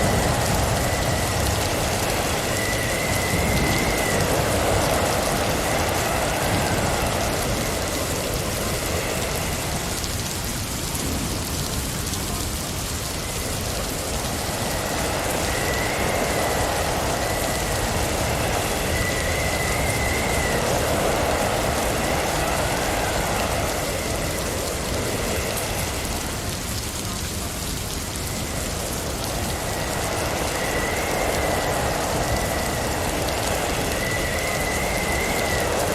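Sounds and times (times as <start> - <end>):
faint wavering high whistle: 0.0 - 9.6, 14.3 - 26.4, 28.2 - 35.9
wind rushing around a car: 0.0 - 35.9.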